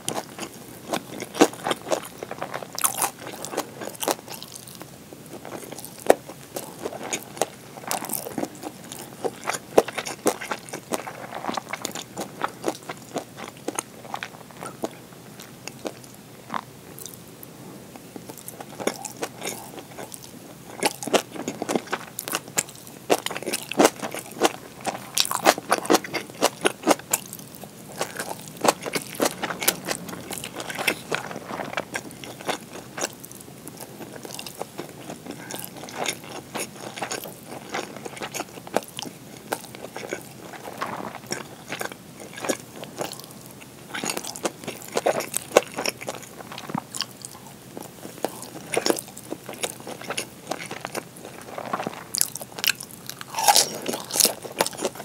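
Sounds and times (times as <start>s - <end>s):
person chewing food: 0.0s - 17.2s, 17.9s - 55.0s.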